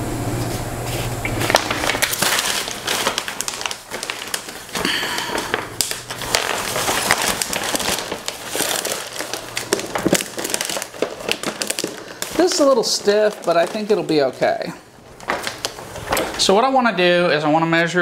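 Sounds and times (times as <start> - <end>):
plastic film crinkling and crackling: 1.2 - 17.2.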